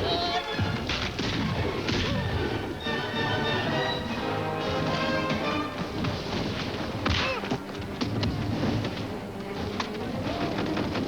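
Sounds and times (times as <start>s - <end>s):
film soundtrack music: 0.0s - 11.0s.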